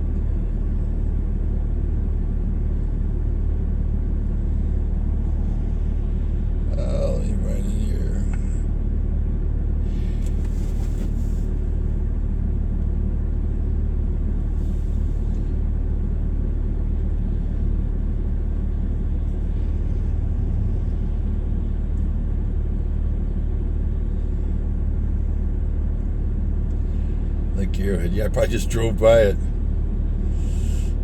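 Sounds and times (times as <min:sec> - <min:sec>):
vehicle engine and road rumble: 0:00.0 - 0:31.0.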